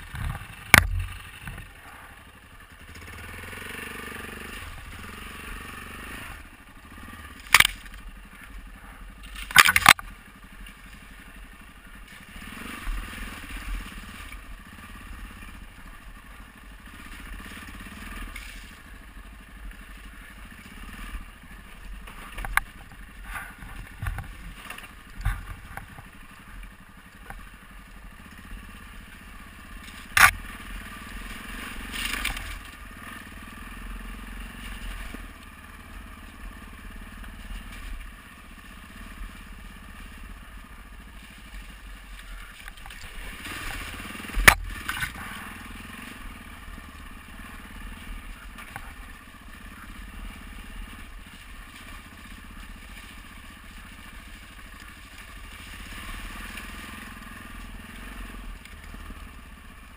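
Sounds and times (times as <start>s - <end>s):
gravel crunching under tyres: 0.0s - 59.9s
motorcycle engine at low revs: 0.0s - 59.9s.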